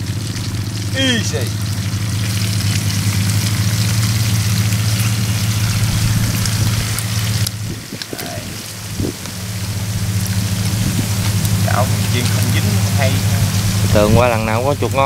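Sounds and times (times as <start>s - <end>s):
low hum: 0.0s - 15.0s
meat sizzling in hot oil: 0.0s - 15.0s.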